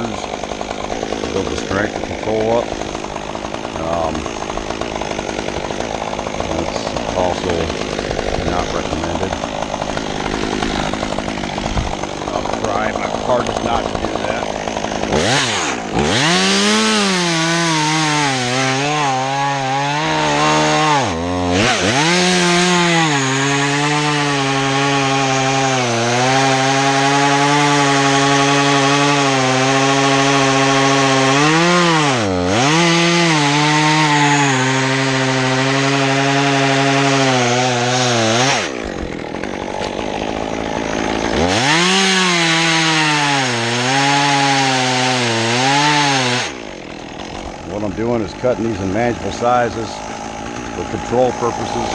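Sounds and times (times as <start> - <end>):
chainsaw cutting at high revs: 0.0 - 51.9.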